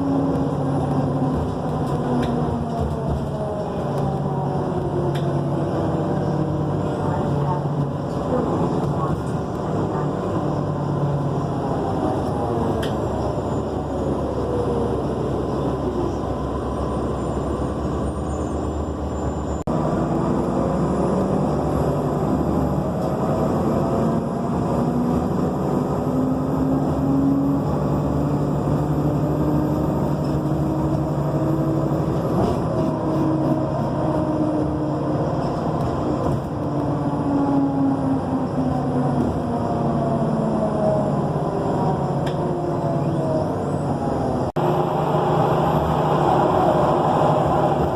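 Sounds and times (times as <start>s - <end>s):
bus drivetrain whine: 0.0s - 47.9s.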